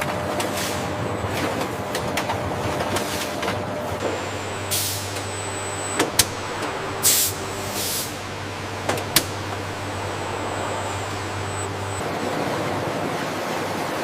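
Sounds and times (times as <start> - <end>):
factory machinery hum: 0.0 - 14.0.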